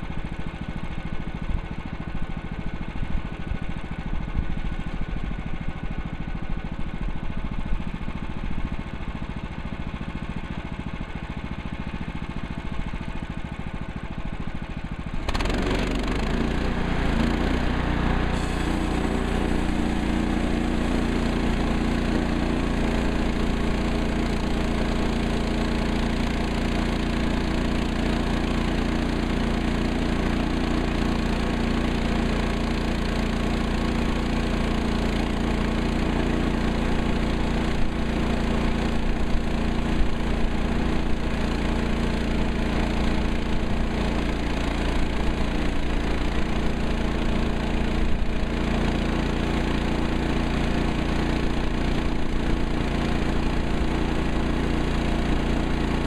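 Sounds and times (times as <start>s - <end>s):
sawmill gas engine running: 0.0s - 56.0s.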